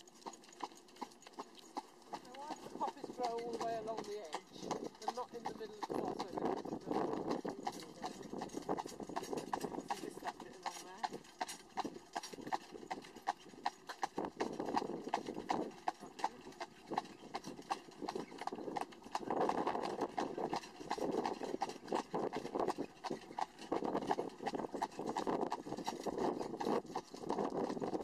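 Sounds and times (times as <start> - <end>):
carriage rolling rumble: 0.0 - 28.0
hooves clip-clopping on tarmac: 0.0 - 28.0.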